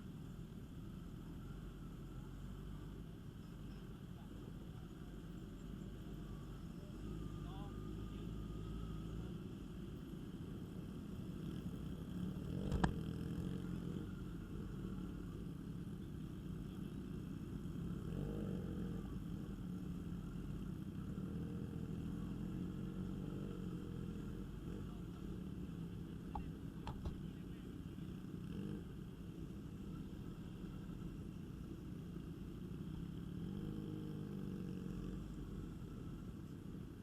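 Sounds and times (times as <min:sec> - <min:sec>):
motorcycle engine rumbling: 0:00.0 - 0:37.0.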